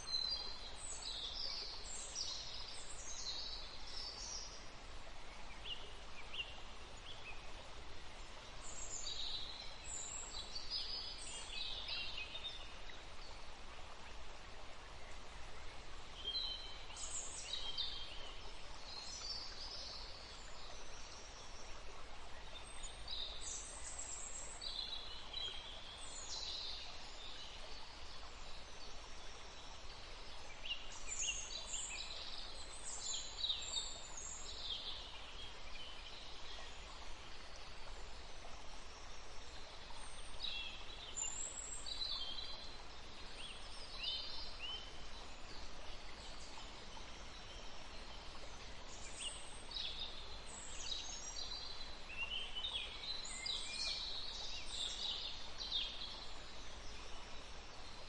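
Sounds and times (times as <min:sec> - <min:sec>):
forest stream rushing: 0:00.0 - 0:58.0.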